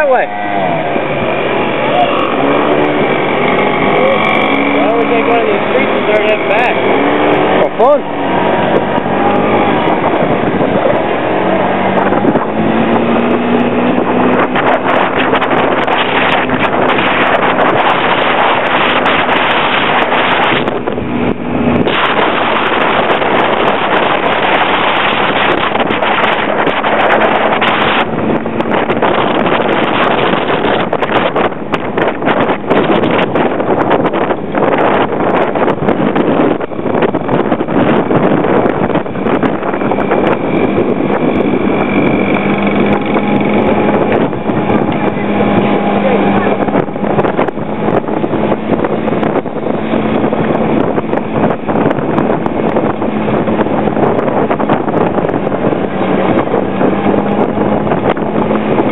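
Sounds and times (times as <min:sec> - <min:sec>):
scooter engine humming: 0:00.0 - 0:58.9
wind buffeting microphone: 0:00.0 - 0:58.9.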